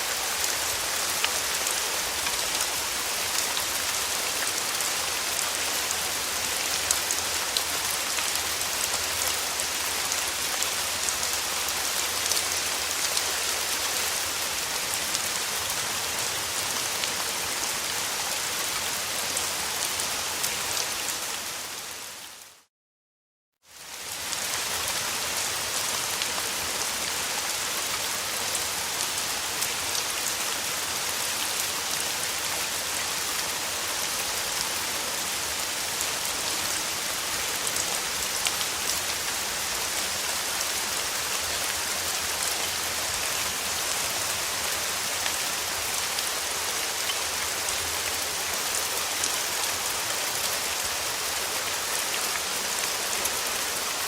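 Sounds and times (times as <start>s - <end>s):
steady rain falling: 0.0s - 22.7s, 23.6s - 54.0s.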